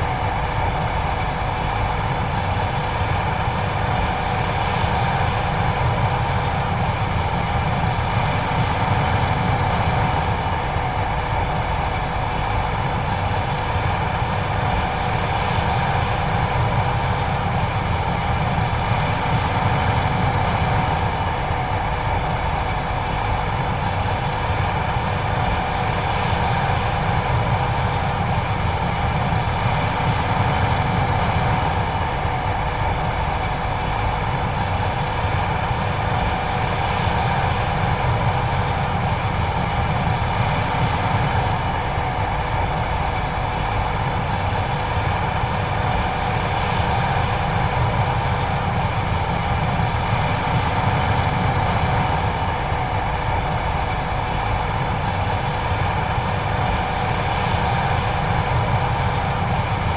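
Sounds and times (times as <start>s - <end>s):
combine harvester rumble: 0.0s - 59.9s
mechanical whine: 0.0s - 59.9s.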